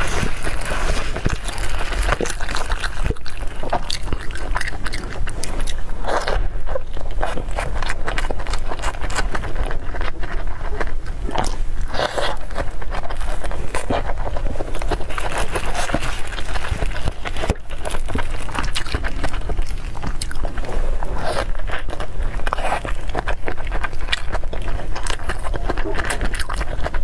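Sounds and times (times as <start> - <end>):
chewing crunches: 0.0 - 27.0.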